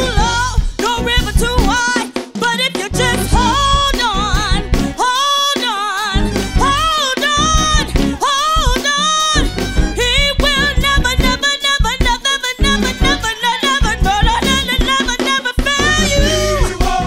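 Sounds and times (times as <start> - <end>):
bass guitar: 0.0 - 1.9, 2.9 - 5.1, 6.2 - 17.0
drums: 0.0 - 17.0
woman singing with vibrato: 0.0 - 17.0.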